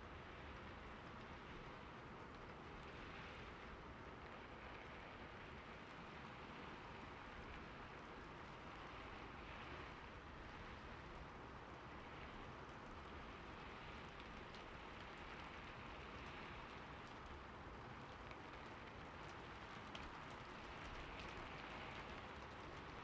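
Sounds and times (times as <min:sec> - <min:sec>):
rain on a roof: 0:00.0 - 0:23.0.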